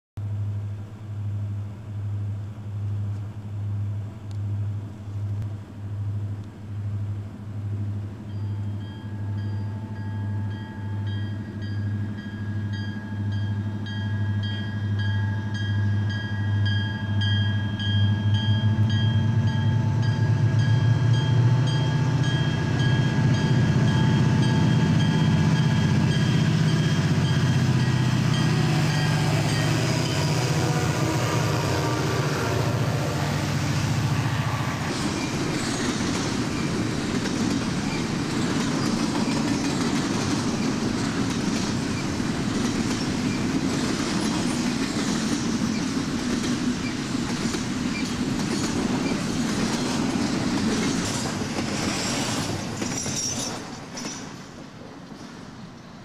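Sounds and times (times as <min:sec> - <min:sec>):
diesel locomotives droning: 0:00.2 - 0:56.0
wheels rumbling on rail: 0:00.2 - 0:56.0.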